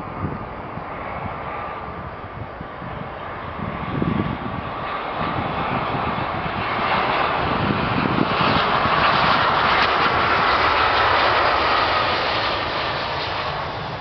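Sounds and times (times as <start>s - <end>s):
jet engines roaring past: 0.0s - 14.0s.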